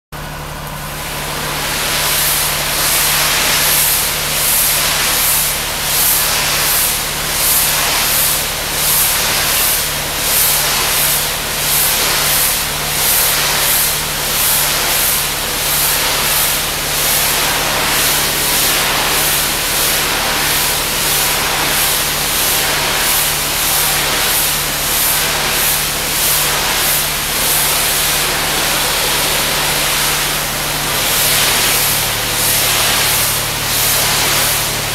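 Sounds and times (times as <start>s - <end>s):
steady low hum: 0.2s - 34.9s
pressure washer spraying: 0.6s - 34.9s.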